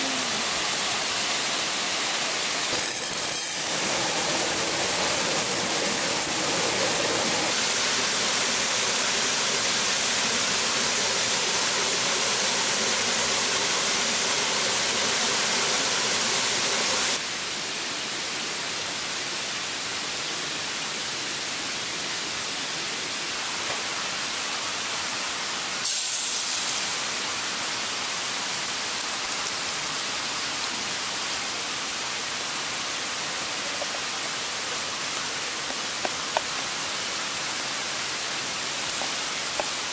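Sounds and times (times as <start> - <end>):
falling water rushing: 0.0 - 18.2, 20.6 - 39.9.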